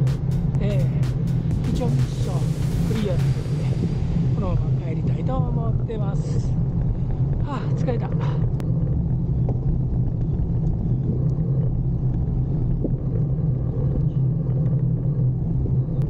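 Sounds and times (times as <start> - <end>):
wind rumble on microphone: 0.0 - 16.0
bicycle tyre noise: 2.8 - 16.0.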